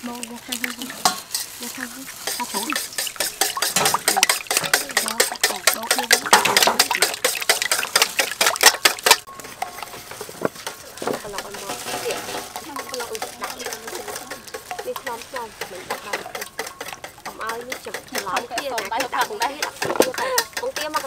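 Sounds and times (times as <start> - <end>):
voices: 0.0 - 8.4, 9.5 - 21.0
wire whisk clicking on metal bowl: 0.2 - 9.8, 10.6 - 21.0.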